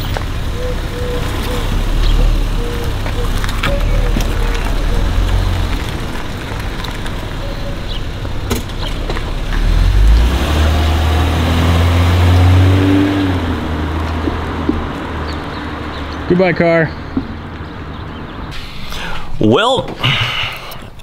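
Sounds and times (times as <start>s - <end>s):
vehicle engine pulling away: 0.0s - 19.2s.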